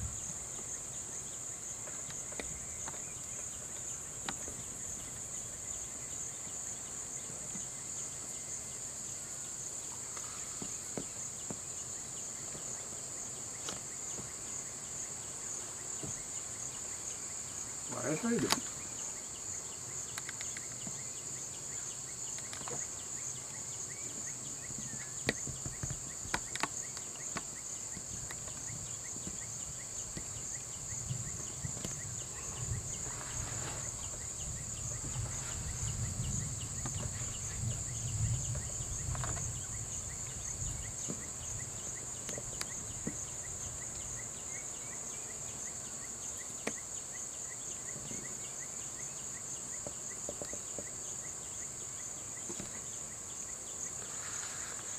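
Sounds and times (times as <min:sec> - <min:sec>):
chorus of insects droning: 0:00.0 - 0:54.9.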